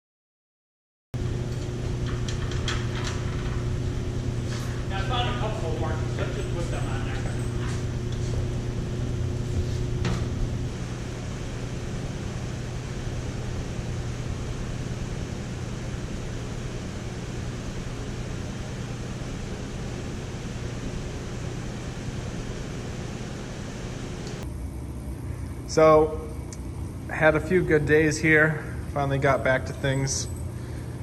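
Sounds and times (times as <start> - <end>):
low machine hum: 1.2 - 31.0.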